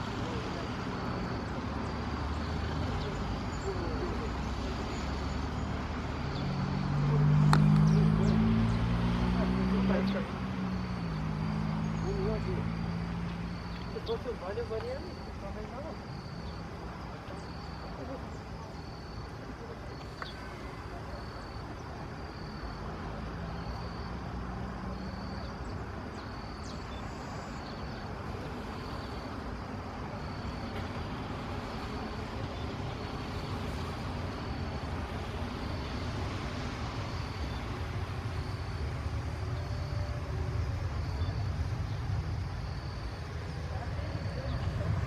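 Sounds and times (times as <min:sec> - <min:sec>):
distant jet airliner rumble: 0:00.0 - 0:45.0
rain hiss: 0:00.0 - 0:45.0.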